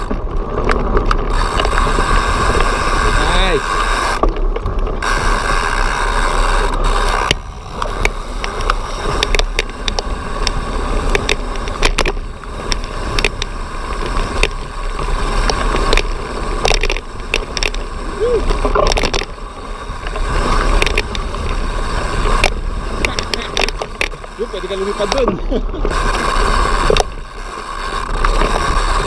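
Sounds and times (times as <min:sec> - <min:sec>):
bike rattling over wooden slats: 0:00.0 - 0:29.0
bike tyres buzzing on dirt: 0:00.0 - 0:29.0.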